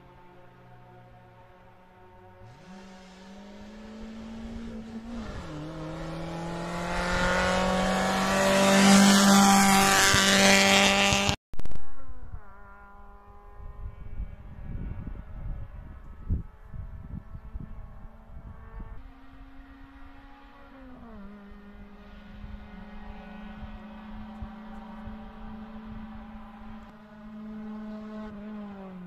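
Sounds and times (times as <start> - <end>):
race car engine at high revs: 2.2 - 11.4, 12.8 - 29.0.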